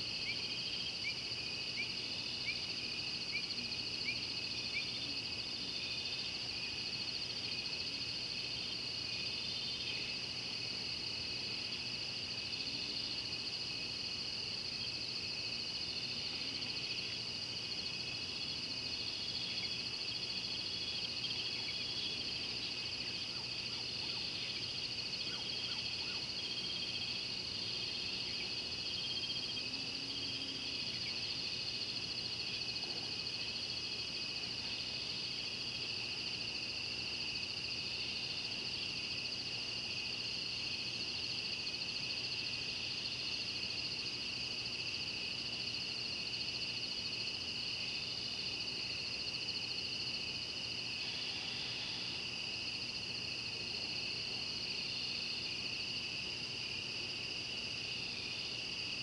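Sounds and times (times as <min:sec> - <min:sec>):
night insects and frogs chorus: 0:00.0 - 0:59.0.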